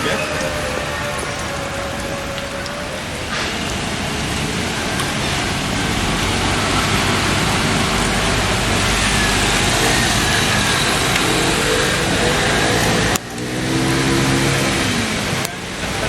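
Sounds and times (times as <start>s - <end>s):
rain hissing: 0.0s - 16.0s
wet street noise: 0.0s - 16.0s.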